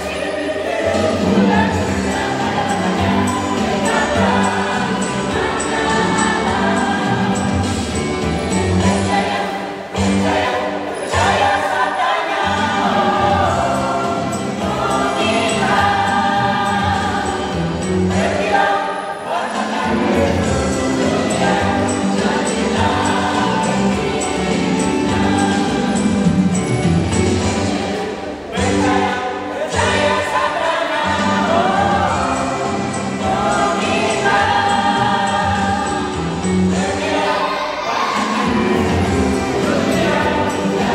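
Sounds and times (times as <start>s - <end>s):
mixed choir singing: 0.0s - 40.9s.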